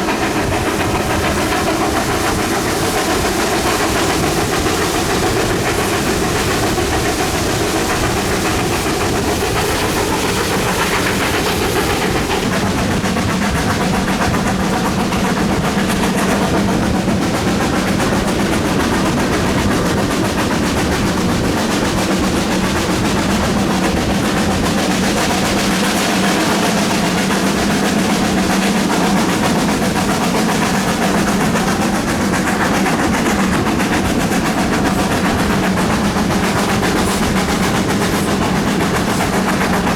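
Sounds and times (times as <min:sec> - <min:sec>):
steam train running on rails: 0:00.0 - 0:39.9.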